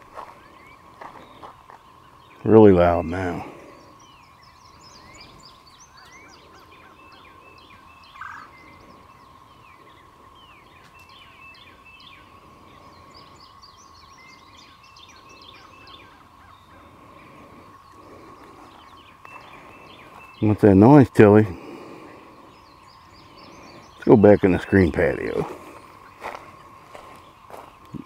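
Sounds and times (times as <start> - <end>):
distant cicada chorus drone: 0.0 - 28.0.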